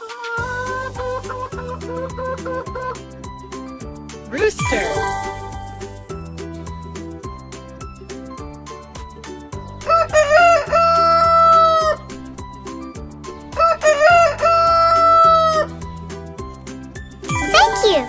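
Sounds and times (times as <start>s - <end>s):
light background music: 0.3s - 18.0s.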